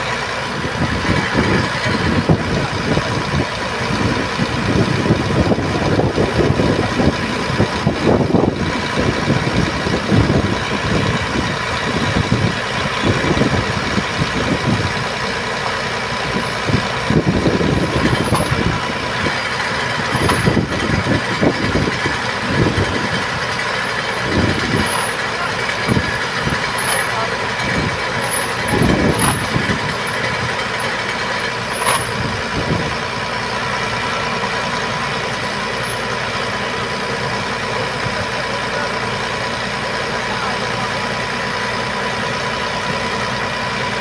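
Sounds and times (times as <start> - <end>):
heavy diesel engine rumbling: 0.0 - 44.0.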